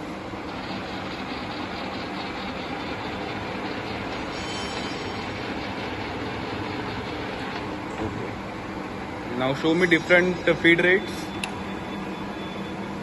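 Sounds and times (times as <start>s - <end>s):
milling machine motor and gearing: 0.0s - 13.0s.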